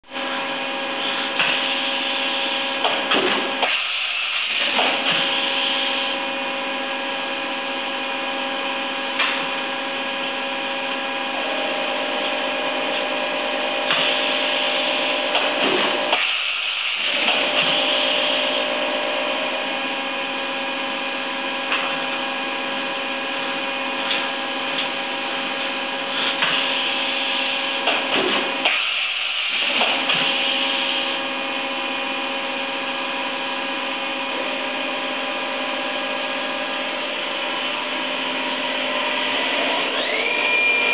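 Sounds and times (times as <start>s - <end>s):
machining center whine: 0.0s - 40.9s.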